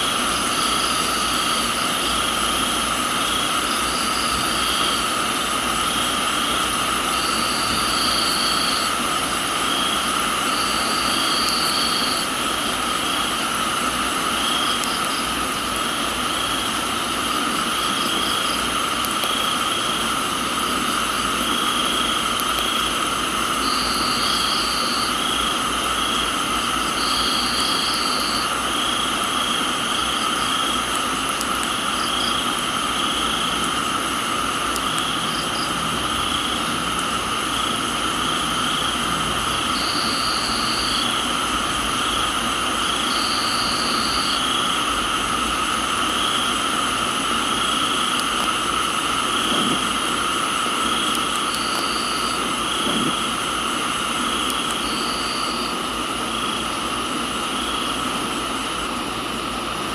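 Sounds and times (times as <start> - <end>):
higher insect trill: 0.0 - 58.7
pulsing insect chirp: 0.0 - 59.6
insects high drone: 0.0 - 59.9
rain hiss: 0.0 - 59.9.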